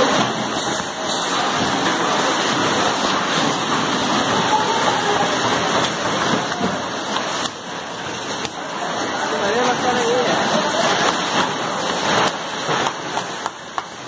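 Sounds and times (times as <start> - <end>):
oil streaming into plastic jerrycans: 0.0 - 14.0.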